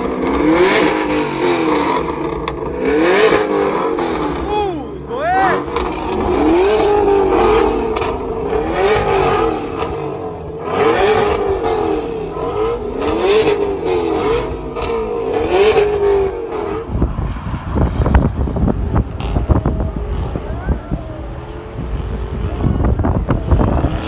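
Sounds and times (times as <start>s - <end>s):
car engine revving: 0.0s - 24.0s
engine rumble: 0.0s - 24.0s.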